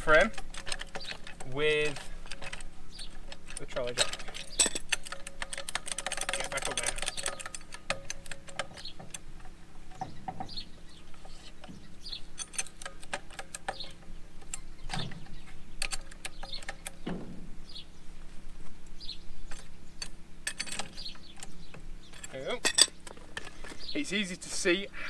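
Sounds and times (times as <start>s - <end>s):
trolley jack metal clicks: 0.0s - 17.4s, 19.5s - 23.9s
bird chirping: 2.6s - 5.3s, 6.5s - 18.2s, 18.9s - 24.8s.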